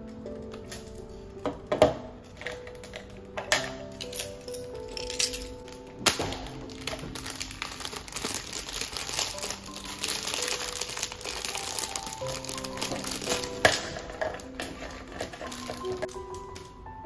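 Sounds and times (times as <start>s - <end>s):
soft piano music: 0.0s - 17.0s
plastic bag crinkling: 2.2s - 16.9s.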